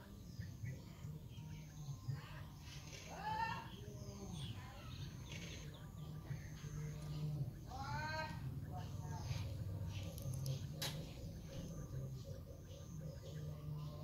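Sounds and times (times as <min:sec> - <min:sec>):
faint bird calls: 0:00.0 - 0:14.0.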